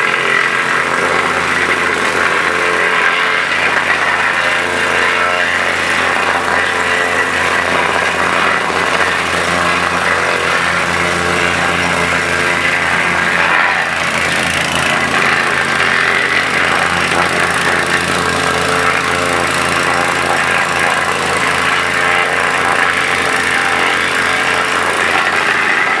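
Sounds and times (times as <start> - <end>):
plate compactor engine running: 0.0 - 26.0.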